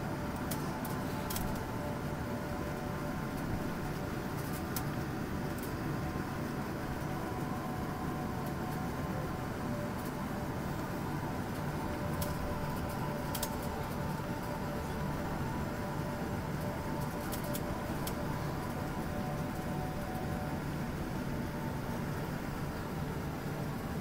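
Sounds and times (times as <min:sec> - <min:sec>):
air-conditioning rush: 0:00.0 - 0:24.0
airliner engines humming: 0:00.0 - 0:24.0
faint steady whine: 0:00.0 - 0:24.0.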